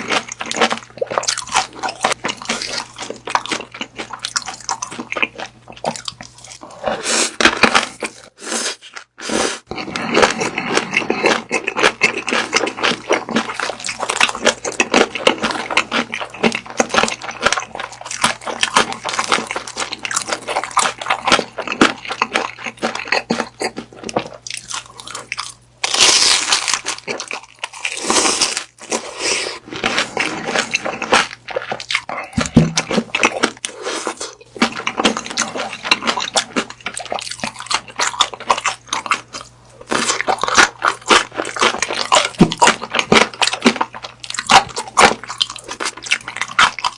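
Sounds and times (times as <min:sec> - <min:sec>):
biting crisp sausage casing: 0:00.0 - 0:46.9
wet crunchy chewing: 0:00.0 - 0:46.9.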